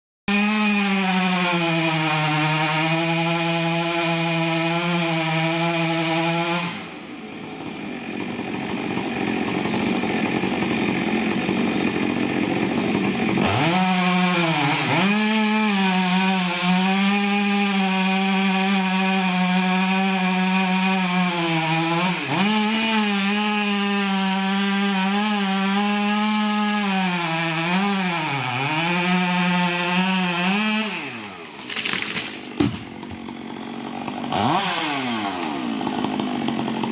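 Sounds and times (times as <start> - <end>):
chainsaw running: 0.3 - 36.9.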